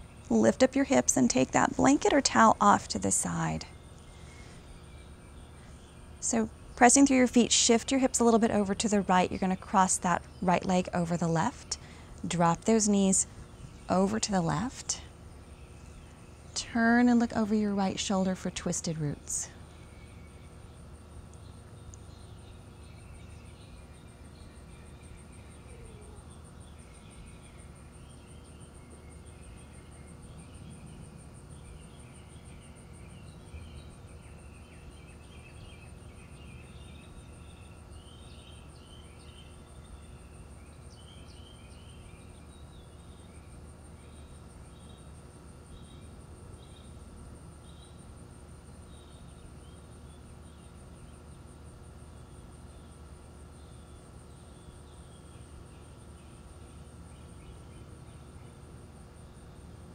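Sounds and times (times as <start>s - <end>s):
low steady rumble: 0.0s - 59.9s
pulsing insect trill: 0.0s - 59.9s.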